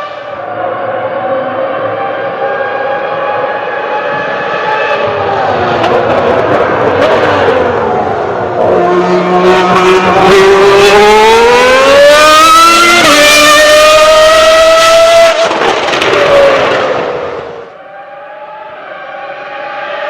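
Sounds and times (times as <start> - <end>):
racing car engine at full throttle: 0.0 - 20.0.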